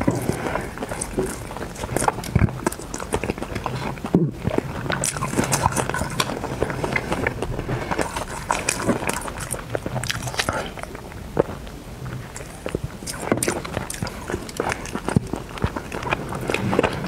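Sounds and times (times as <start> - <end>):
person chewing with mouth clicks: 0.0 - 17.0.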